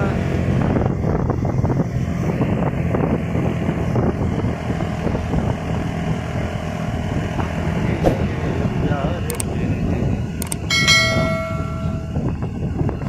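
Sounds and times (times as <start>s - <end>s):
vehicle engine running: 0.0s - 13.0s
wind rushing over microphone: 0.0s - 13.0s.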